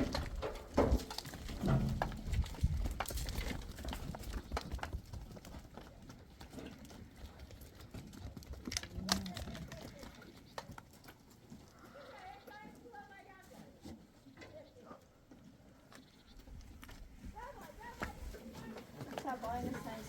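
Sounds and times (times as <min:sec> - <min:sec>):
livestock knocks and clicks: 0:00.0 - 0:20.0.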